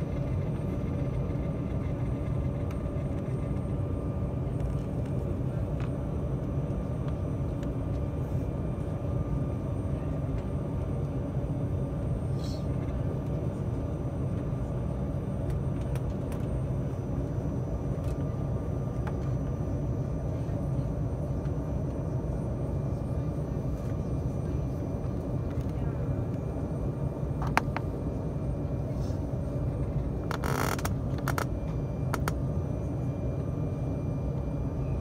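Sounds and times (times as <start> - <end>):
faint steady whine tones: 0.0 - 35.0
low rumble of jet engines: 0.0 - 35.0.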